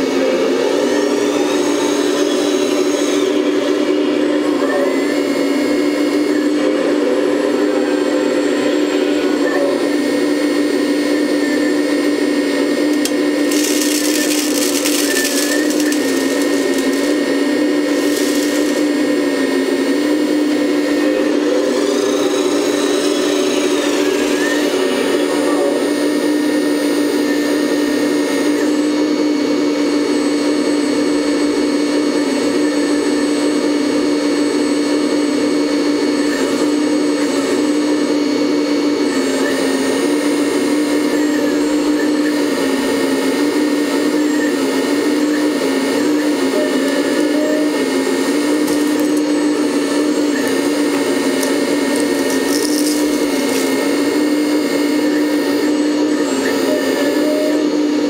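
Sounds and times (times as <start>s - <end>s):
hydraulic pump whining: 0.0s - 28.8s, 34.5s - 58.0s.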